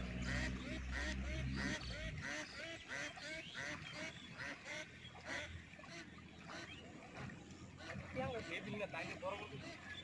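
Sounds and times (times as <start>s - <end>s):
waterfowl honking calls: 0.0s - 10.0s.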